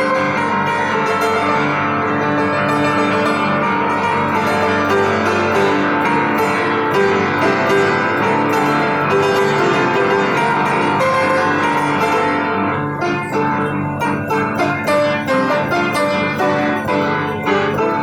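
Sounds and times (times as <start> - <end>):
piano strings ringing: 0.0 - 18.0.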